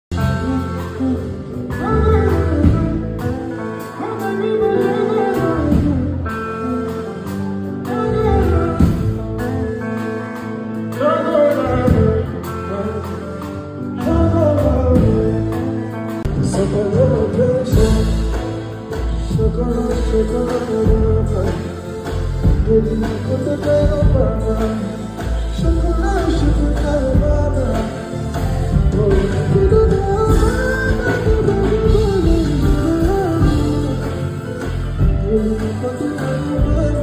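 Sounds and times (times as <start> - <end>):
band music: 0.0 - 37.0
man singing: 0.1 - 37.0.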